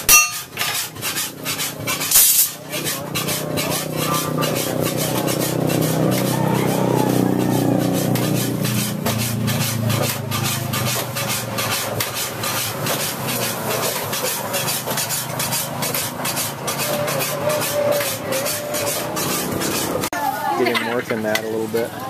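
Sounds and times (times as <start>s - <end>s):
sharp metal strokes: 0.0s - 20.1s.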